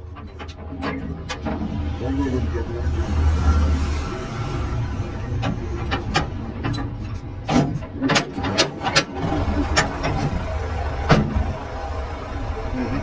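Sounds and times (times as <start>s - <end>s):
metal knocks and clanks: 0.0s - 11.6s
low machine hum: 0.0s - 13.0s.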